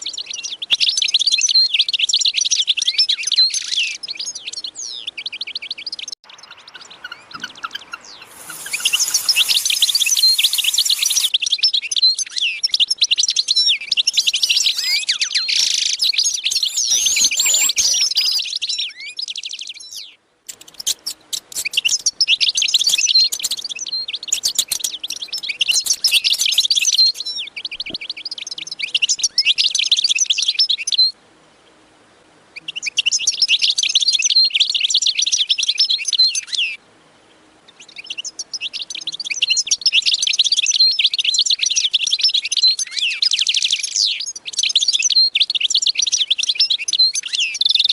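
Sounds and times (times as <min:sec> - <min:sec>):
small birds chirping: 0:00.0 - 0:31.8, 0:37.7 - 0:47.9.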